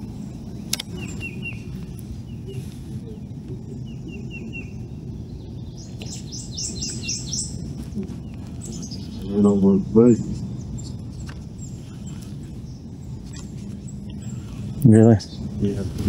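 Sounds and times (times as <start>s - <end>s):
low background noise: 0.0s - 16.0s
small birds chirping: 0.0s - 16.0s.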